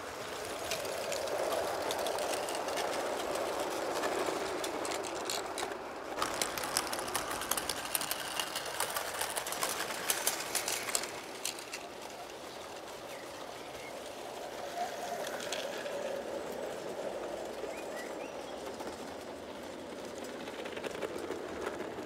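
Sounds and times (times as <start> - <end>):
model train wheels clattering: 0.0 - 22.0.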